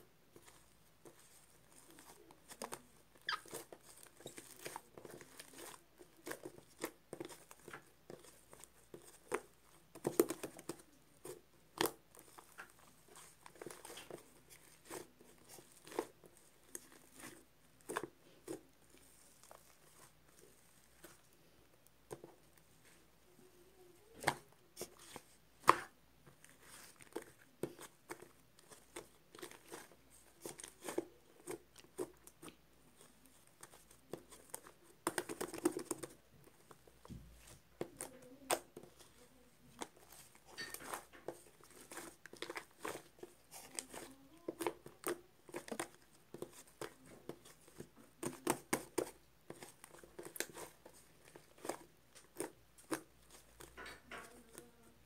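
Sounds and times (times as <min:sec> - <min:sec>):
slime clicking and crackling: 0:00.3 - 0:21.3, 0:24.0 - 0:55.0.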